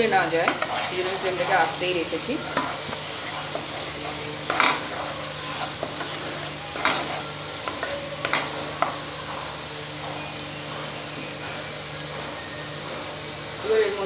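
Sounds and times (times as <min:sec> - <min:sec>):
spatula scraping a pan: 0:00.0 - 0:13.2
paste sizzling in oil: 0:00.0 - 0:14.0.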